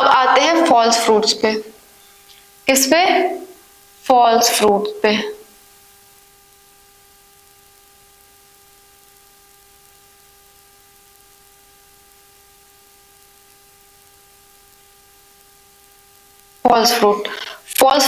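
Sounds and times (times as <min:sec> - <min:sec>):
faint electrical hum: 0:00.0 - 0:18.0
steady hiss: 0:00.0 - 0:18.0.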